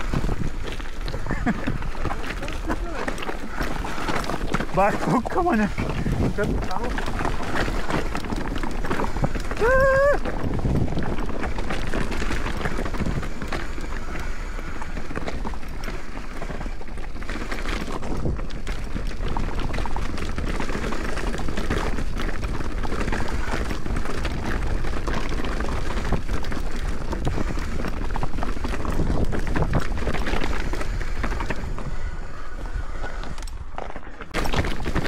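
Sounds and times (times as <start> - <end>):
bike rattling: 0.0 - 35.0
tyres on loose stones: 0.0 - 35.0
wind rushing over microphone: 3.9 - 16.8, 17.8 - 33.7.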